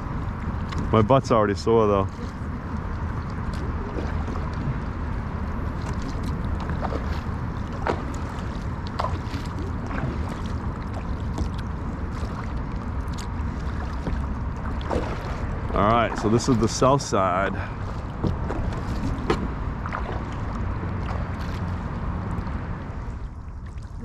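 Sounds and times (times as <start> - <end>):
paddle splashing water: 0.0 - 24.0
steady low rumble: 0.0 - 24.0.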